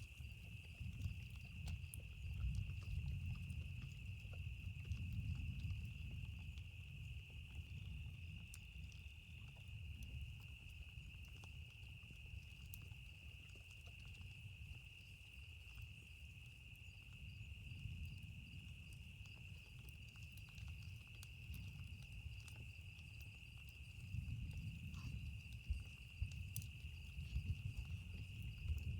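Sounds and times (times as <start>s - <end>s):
faint campfire crackling: 0.0s - 28.9s.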